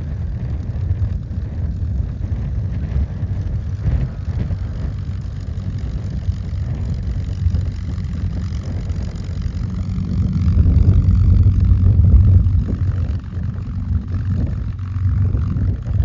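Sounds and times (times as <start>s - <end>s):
airplane piston engine droning: 0.0s - 16.0s.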